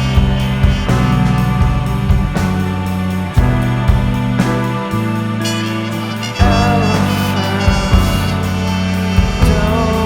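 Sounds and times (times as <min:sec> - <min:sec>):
bass and guitar chords: 0:00.0 - 0:10.0.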